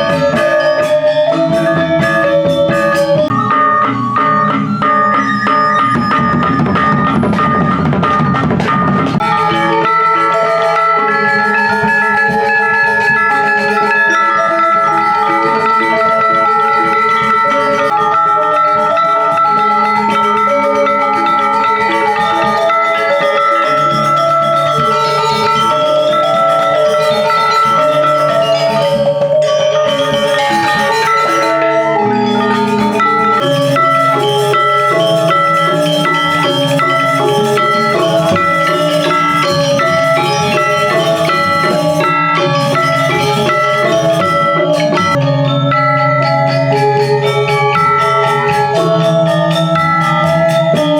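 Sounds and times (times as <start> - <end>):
gamelan metallophones playing: 0.0 - 50.9.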